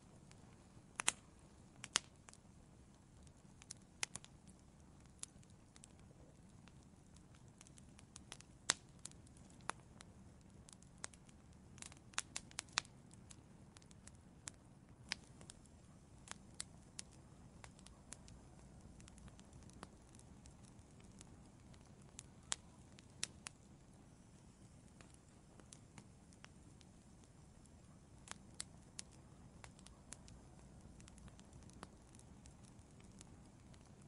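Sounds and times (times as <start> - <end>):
low rumble of burning: 0.0 - 34.0
wood fire crackling: 0.0 - 34.0.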